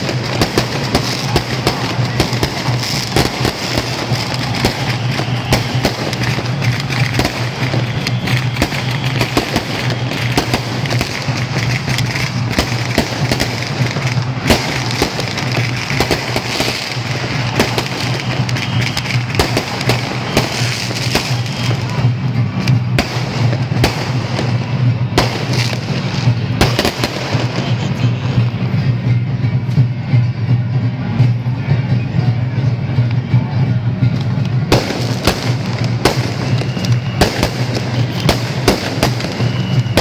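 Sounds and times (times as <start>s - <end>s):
firecrackers cracking: 0.0s - 29.4s, 34.0s - 40.0s
music: 0.0s - 40.0s.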